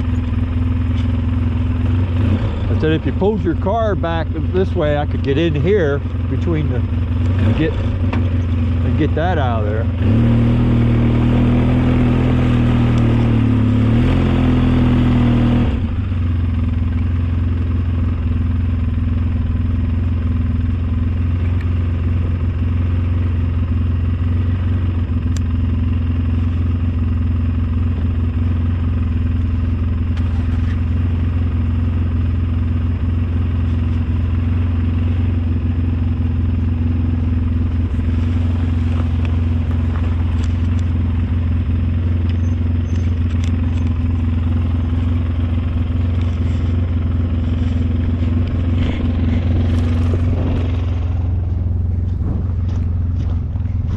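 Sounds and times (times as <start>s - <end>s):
snowplow engine running: 0.0s - 53.9s.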